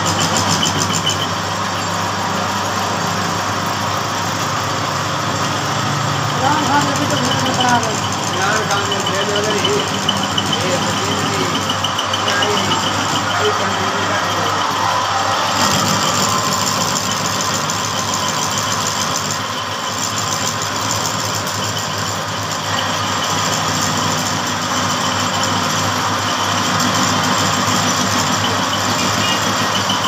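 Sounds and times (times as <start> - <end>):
metal lathe running: 0.0 - 30.0.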